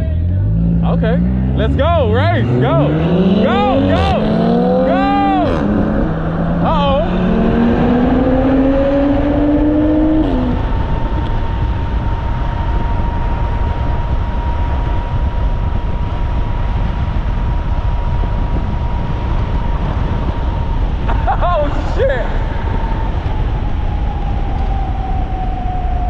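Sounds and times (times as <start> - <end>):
car engine accelerating: 0.0 - 26.0
wind and road noise: 0.0 - 26.0.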